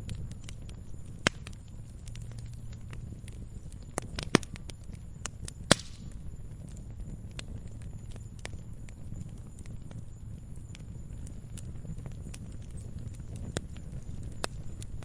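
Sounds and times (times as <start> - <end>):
burning wood popping: 0.0 - 15.0
low rumble of flames: 0.0 - 15.0.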